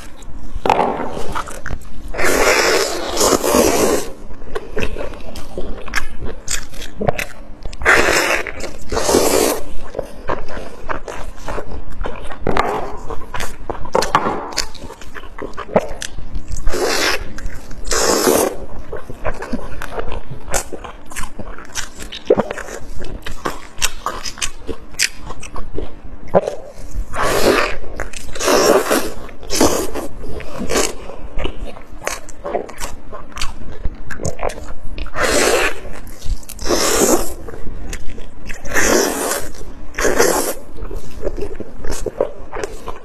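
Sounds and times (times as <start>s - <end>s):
chewing meat off the bone: 0.0s - 43.0s.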